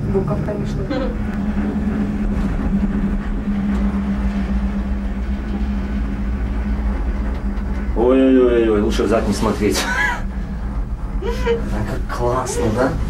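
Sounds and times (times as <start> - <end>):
cable car low rumble: 0.0 - 13.0
constant hum: 0.0 - 13.0.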